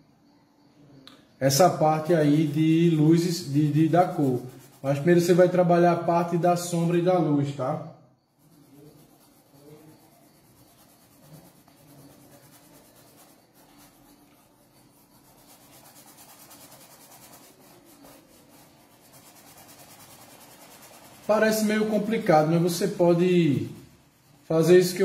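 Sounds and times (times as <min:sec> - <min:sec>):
paintbrush rubbing on canvas: 0:01.6 - 0:07.6, 0:08.2 - 0:25.0.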